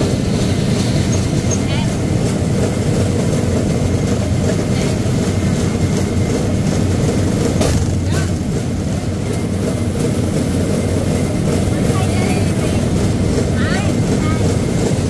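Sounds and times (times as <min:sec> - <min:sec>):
steel wheels rumbling on track: 0:00.0 - 0:15.0.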